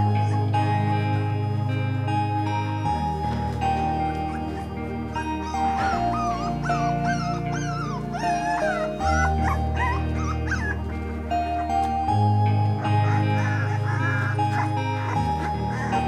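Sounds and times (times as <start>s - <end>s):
puppies whimpering and yipping: 0.0s - 0.9s, 3.6s - 16.0s
background music with held notes: 0.0s - 16.0s.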